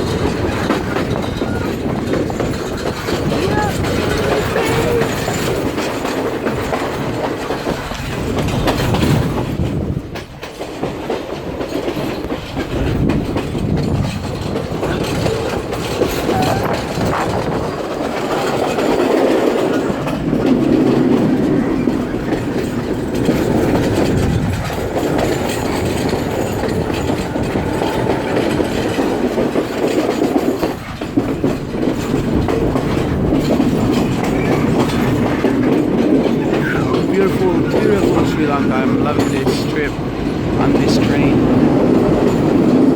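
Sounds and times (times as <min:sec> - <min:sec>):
train wheels on track: 0:00.0 - 0:42.9.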